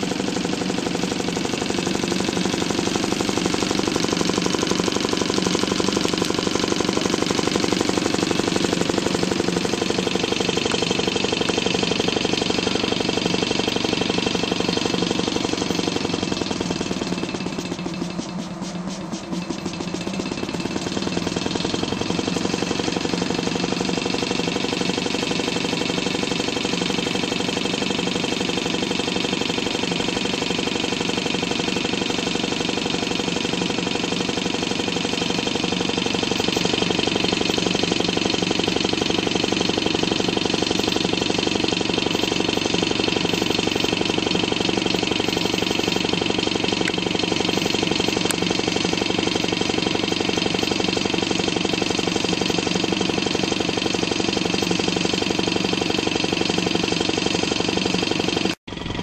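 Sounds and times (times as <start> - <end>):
engine generator running: 0.0 - 59.0.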